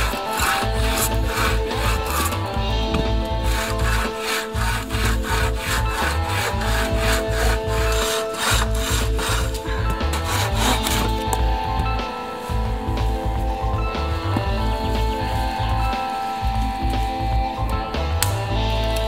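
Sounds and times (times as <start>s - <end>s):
background music with low beat: 0.0s - 19.0s
bow saw cutting wood: 0.0s - 19.0s.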